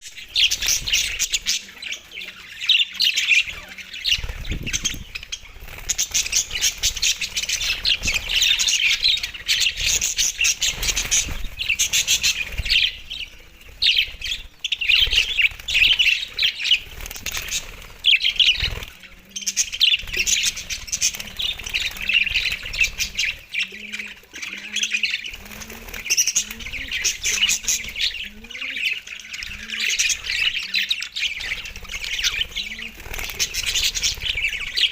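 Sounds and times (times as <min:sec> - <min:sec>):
budgerigars chirping and chattering: 0:00.0 - 0:34.9.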